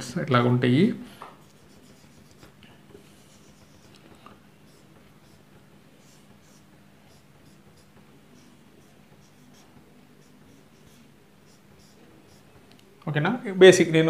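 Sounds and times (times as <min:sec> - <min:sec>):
low steady hum: 0:00.0 - 0:14.0
marker drawing on whiteboard: 0:01.4 - 0:12.7.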